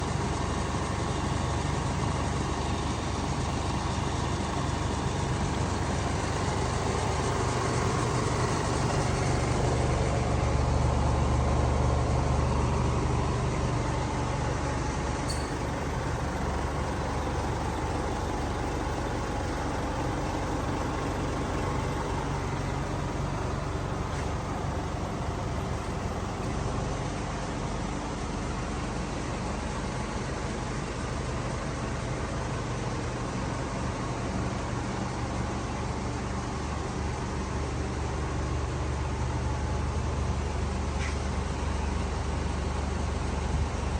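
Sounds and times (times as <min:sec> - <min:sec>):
road noise: 0:00.0 - 0:43.9
vehicle engine rumble: 0:00.0 - 0:43.9.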